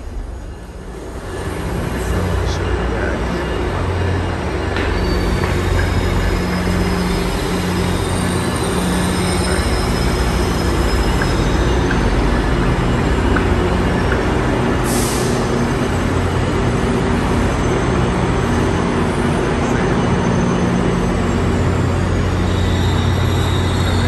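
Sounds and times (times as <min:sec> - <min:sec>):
trains rumbling and humming: 0:00.0 - 0:24.0.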